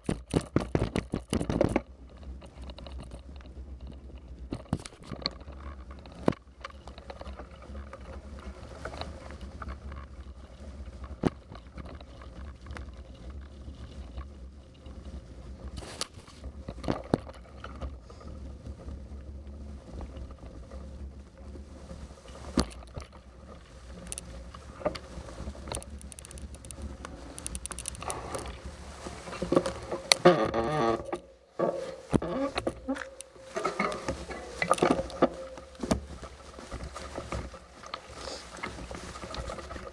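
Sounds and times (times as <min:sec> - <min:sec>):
bicycle knocks and rattles: 0:00.0 - 0:39.9
bicycle rumbling on dirt path: 0:00.0 - 0:39.9.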